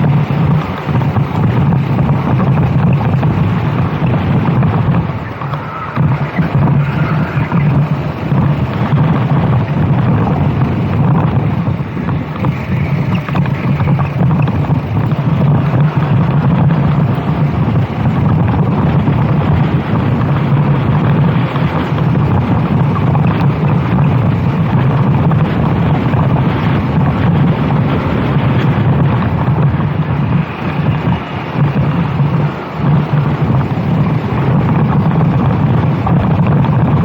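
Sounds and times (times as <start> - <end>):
kart engine droning: 0.0 - 37.0.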